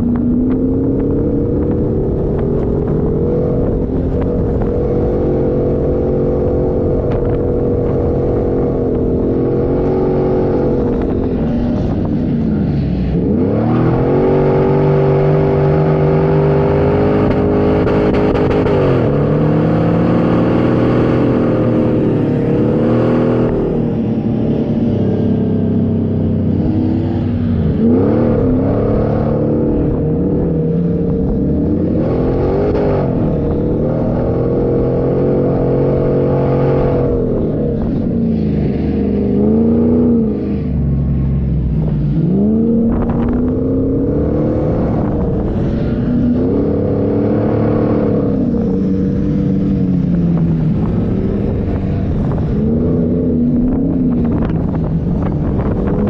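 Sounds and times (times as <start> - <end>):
engine revving under load: 0.0 - 56.0.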